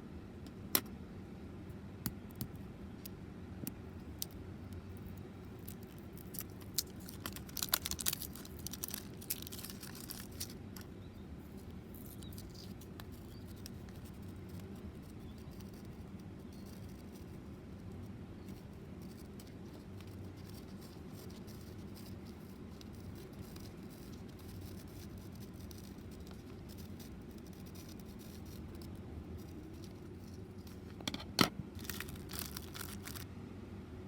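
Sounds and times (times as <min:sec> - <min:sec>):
steady low hum: 0:00.0 - 0:34.0
faint scratching and crinkling: 0:04.7 - 0:31.2, 0:31.8 - 0:33.3.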